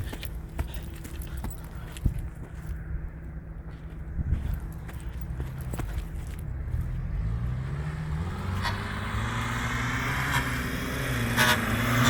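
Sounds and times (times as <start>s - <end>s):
car engine running under load: 0.0s - 12.0s.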